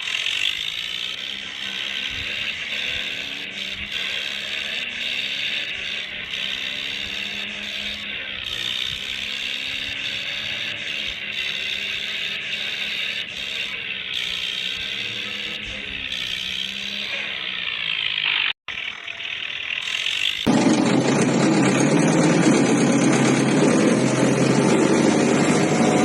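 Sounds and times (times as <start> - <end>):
toy mechanism rattling whir: 0.0 - 24.4.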